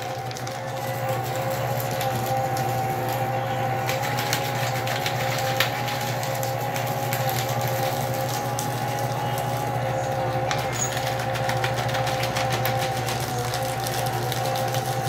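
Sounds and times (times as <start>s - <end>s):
paper crackling and rustling: 0.0s - 15.0s
paper shredder motor humming: 0.0s - 15.0s.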